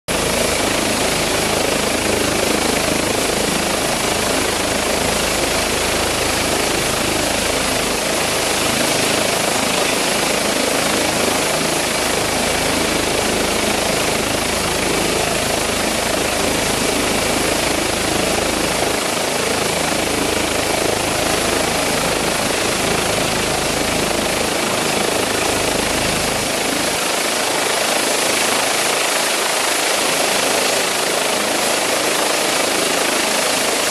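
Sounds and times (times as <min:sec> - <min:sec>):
helicopter rotor and turbine rush: 0:00.1 - 0:33.9.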